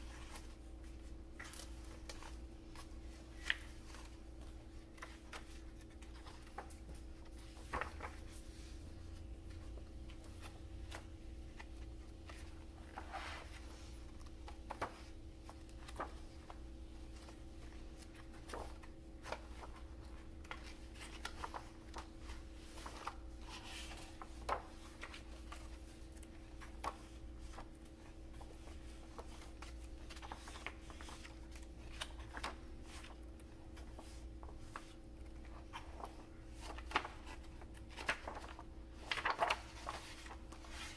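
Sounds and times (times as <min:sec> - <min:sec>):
book pages rustling: 0:00.0 - 0:40.9
faint electrical hum: 0:00.0 - 0:40.9.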